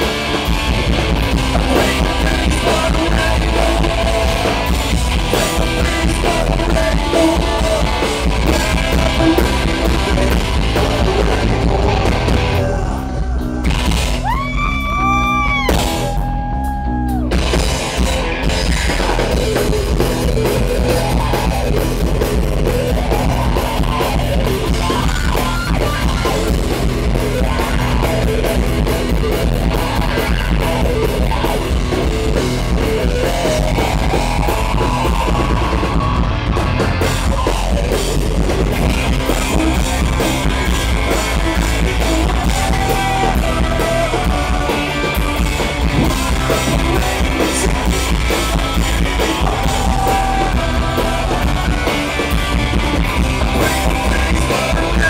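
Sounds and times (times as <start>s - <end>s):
live hard rock band: 0.0s - 55.0s.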